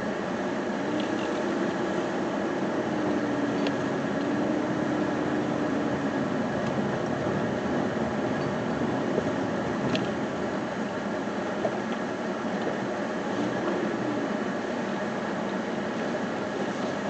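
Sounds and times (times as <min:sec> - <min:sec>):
low hum: 0:00.0 - 0:17.0
vehicle driving from inside cab: 0:00.0 - 0:17.0.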